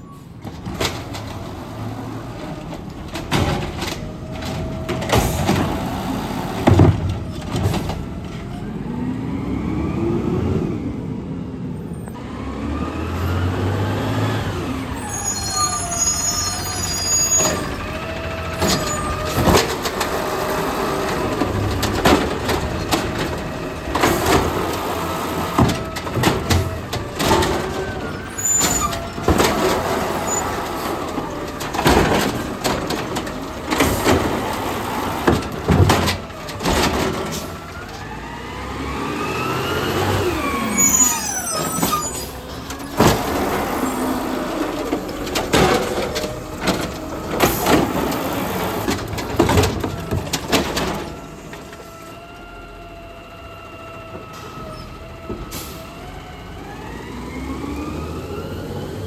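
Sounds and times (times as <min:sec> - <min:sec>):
garbage truck engine running: 0:00.0 - 0:59.0.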